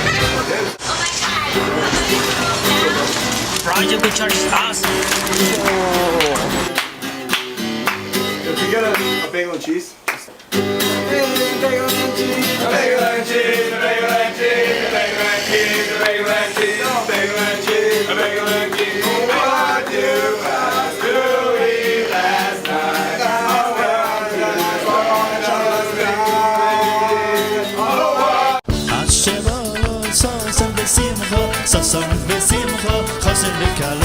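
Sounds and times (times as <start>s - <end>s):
country tune with guitar: 0.0s - 9.4s, 10.4s - 34.0s.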